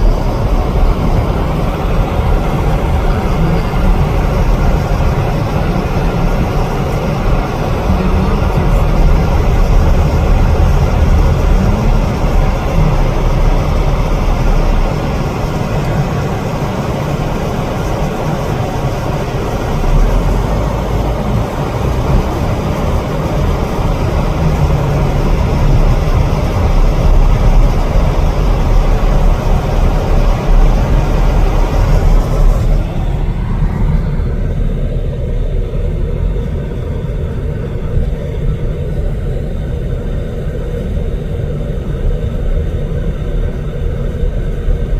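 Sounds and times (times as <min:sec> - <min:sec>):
car engine rumble: 0:00.0 - 0:44.9
road noise: 0:00.0 - 0:44.9.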